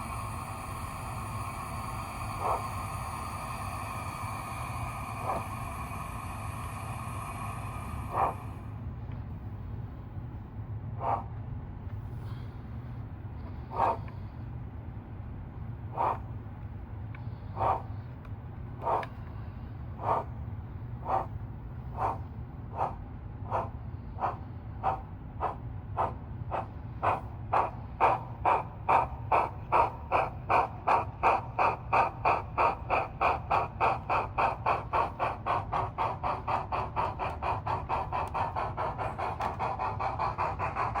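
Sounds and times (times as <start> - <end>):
model steam locomotive chuffs: 0.0 - 11.2, 12.0 - 14.9, 15.8 - 41.0
low steady hum: 0.0 - 41.0.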